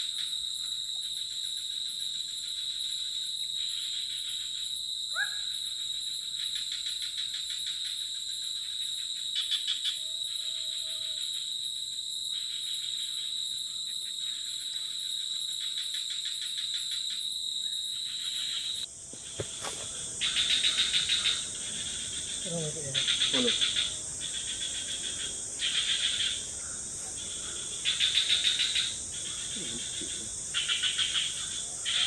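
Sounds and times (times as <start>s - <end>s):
fast pulsing insect trills: 0.0s - 32.0s
insects droning: 0.0s - 32.0s.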